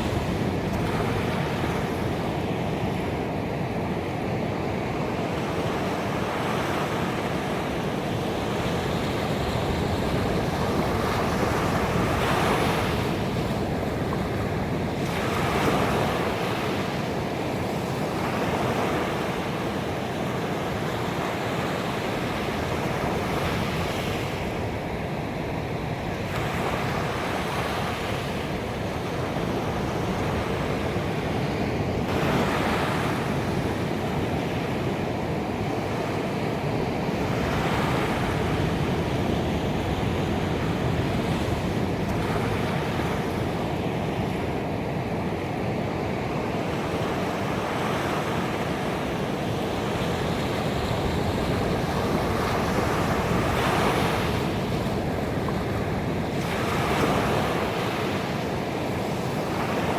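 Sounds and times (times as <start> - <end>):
ocean waves breaking: 4.8 - 59.9.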